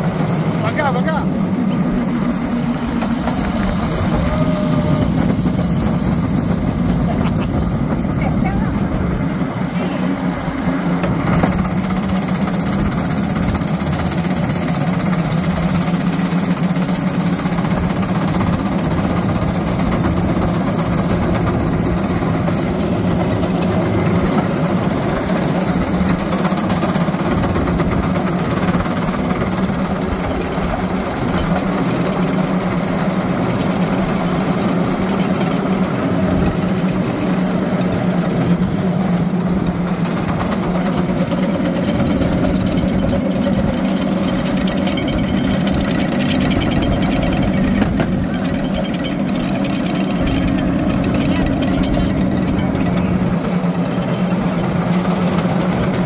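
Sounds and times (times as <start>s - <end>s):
small engine running: 0.0s - 56.0s
steel wheels clattering on rails: 0.0s - 56.0s.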